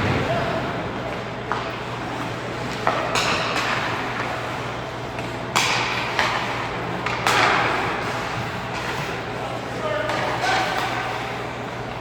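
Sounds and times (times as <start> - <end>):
low arena hum: 0.0 - 12.0
hockey sticks and puck clacking: 1.0 - 12.0.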